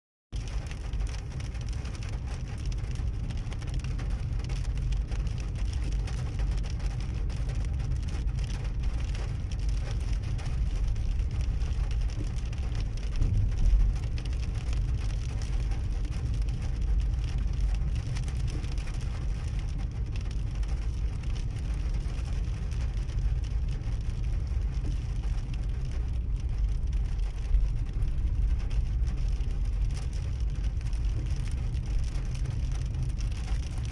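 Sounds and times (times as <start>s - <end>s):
rain on a moving car: 0.3s - 33.9s
tyres on wet road: 0.4s - 33.9s.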